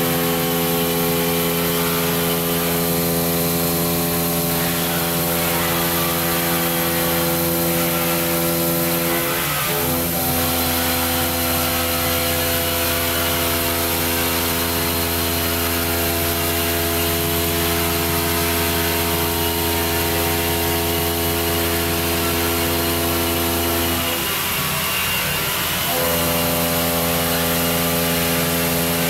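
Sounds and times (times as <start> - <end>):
stone milling machine hum: 0.0 - 29.0.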